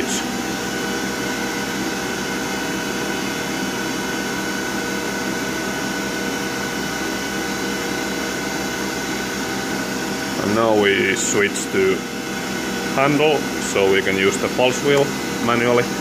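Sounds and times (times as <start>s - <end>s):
lathe machine hum: 0.0s - 16.0s.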